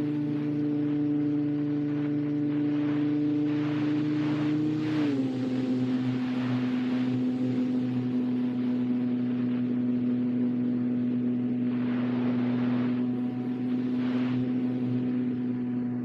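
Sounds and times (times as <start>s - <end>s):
model airplane motor humming: 0.0s - 16.0s
rushing wind: 0.0s - 16.0s.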